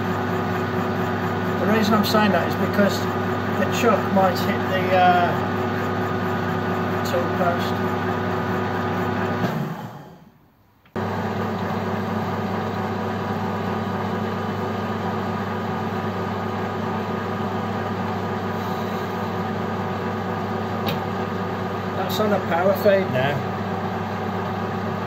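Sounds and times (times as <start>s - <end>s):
metal lathe humming: 0.0s - 10.0s, 11.0s - 25.0s.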